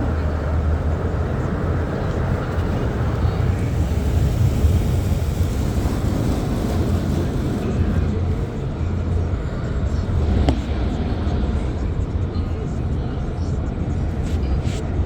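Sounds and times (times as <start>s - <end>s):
car wash equipment rumbling: 0.0s - 15.0s.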